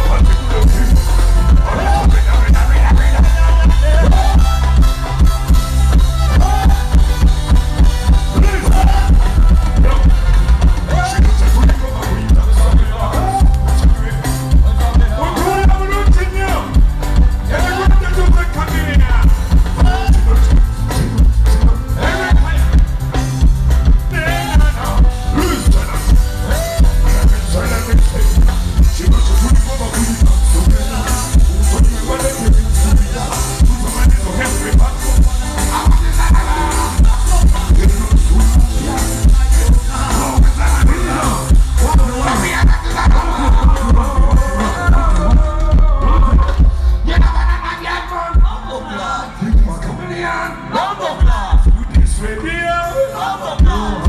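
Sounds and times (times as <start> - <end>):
person singing melody: 0.0 - 23.1, 23.8 - 50.0
steady drum beat: 0.0 - 48.8, 51.2 - 52.6
heavy bass line: 0.0 - 50.0
loud band music over pa: 0.0 - 54.0.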